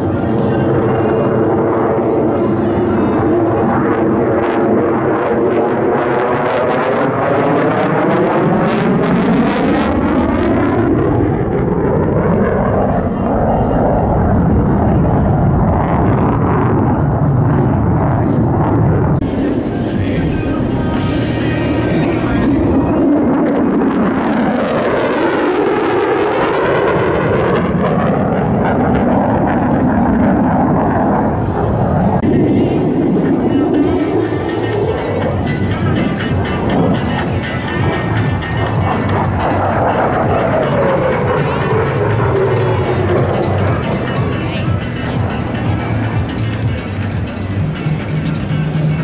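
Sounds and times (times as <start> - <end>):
jet engine roar: 0.0 - 49.0.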